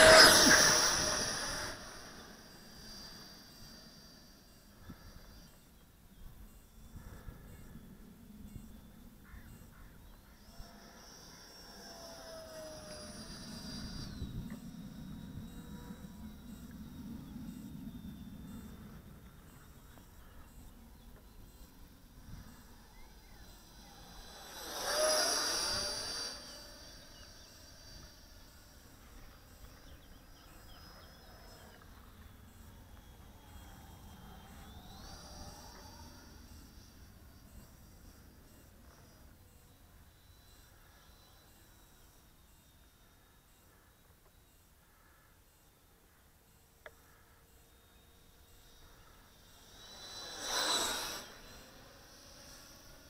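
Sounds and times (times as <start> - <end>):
electric ducted fan whining: 0.0 - 43.5, 46.4 - 53.0.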